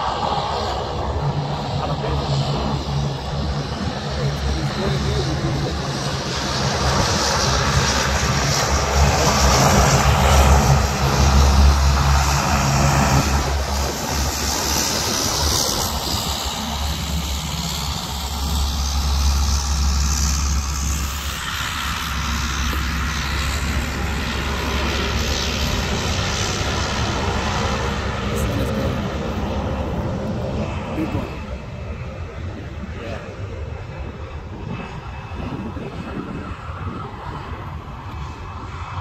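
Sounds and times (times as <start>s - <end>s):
turboprop engines droning: 0.0s - 39.0s.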